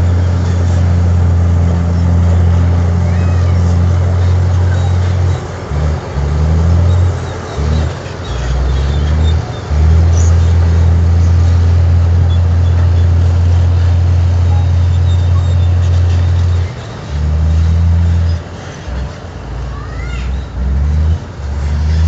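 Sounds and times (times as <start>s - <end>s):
diesel machinery engine drone: 0.0s - 22.0s.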